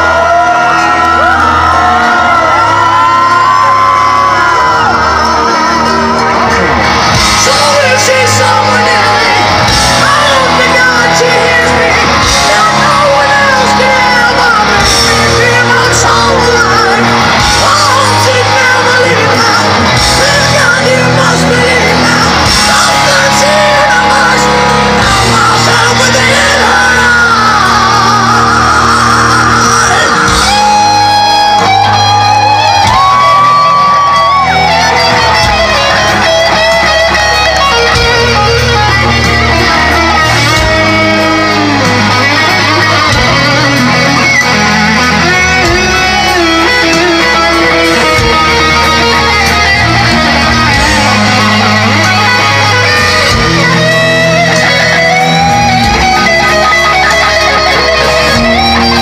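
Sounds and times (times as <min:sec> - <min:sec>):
bass guitar: 0:00.0 - 0:59.0
electric guitar lead with bent notes: 0:00.0 - 0:59.0.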